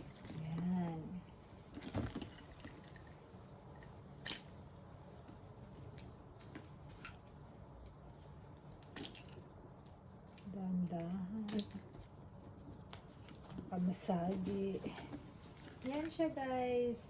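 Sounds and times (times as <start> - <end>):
backpack handling clicks and rustles: 0.0 - 16.3.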